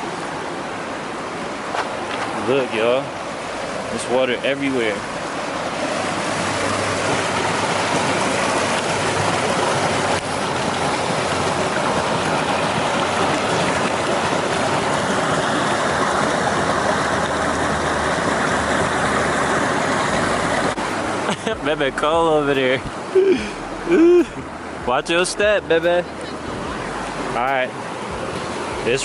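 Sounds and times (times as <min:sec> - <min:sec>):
creek water rushing over rocks: 0:00.0 - 0:29.0.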